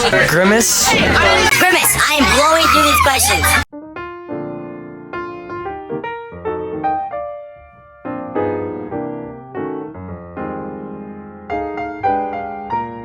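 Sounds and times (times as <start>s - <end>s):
piano music: 1.2s - 13.0s.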